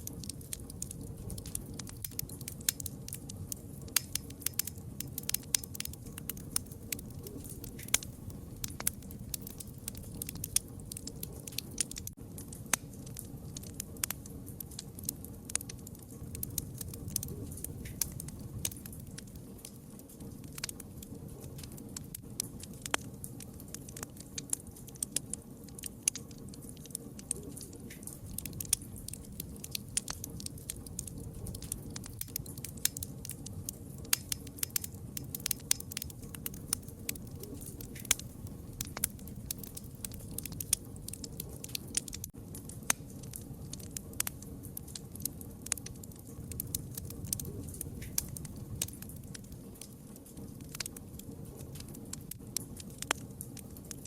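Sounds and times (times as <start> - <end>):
burning wood crackling: 0.0 - 54.0
low rumble of flames: 0.0 - 54.0.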